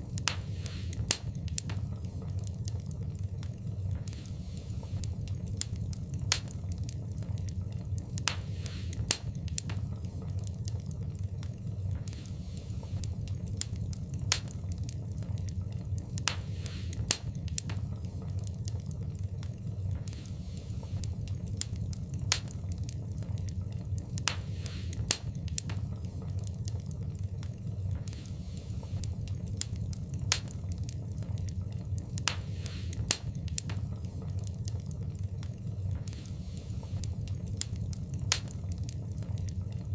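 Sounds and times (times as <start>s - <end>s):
low rumble: 0.0s - 39.9s
sharp pops from fire: 0.0s - 39.9s
wood fire crackling: 0.0s - 39.9s.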